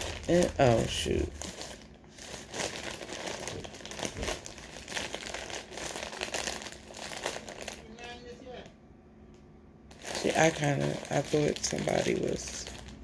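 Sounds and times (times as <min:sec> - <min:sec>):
plastic mailer bag crinkling: 0:00.0 - 0:08.7, 0:09.9 - 0:13.0.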